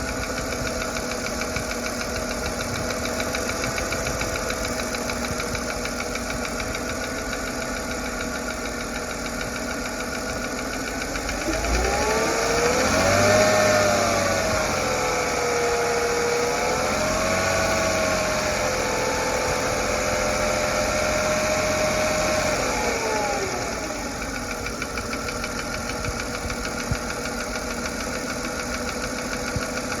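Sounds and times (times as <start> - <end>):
car engine idling and revving: 0.0 - 30.0
engine ticking: 0.0 - 30.0.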